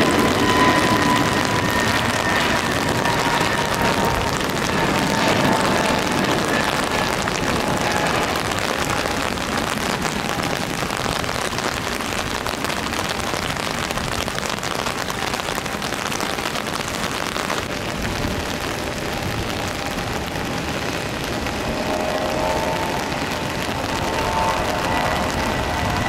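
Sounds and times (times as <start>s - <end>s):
rain on an umbrella: 0.0s - 26.0s.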